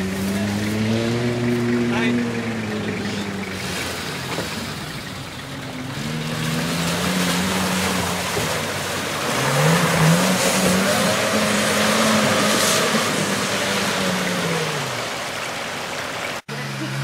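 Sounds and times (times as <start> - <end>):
car engine revving: 0.0 - 17.0
water splashing around wheels: 0.0 - 17.0.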